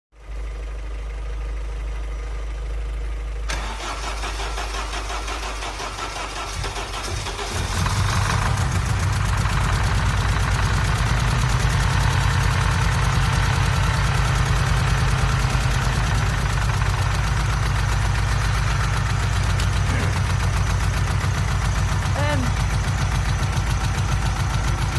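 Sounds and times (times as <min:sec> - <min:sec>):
engine idling with misfire: 0:00.2 - 0:24.9
engine cranking: 0:03.5 - 0:24.9.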